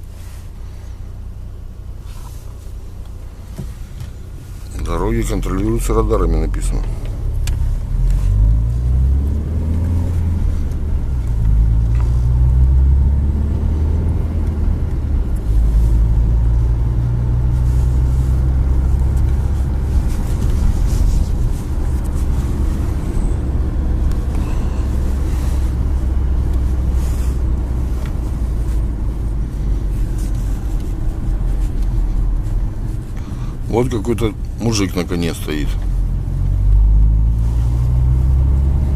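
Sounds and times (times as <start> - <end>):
car engine: 0.0 - 38.9
road rumble: 0.0 - 38.9.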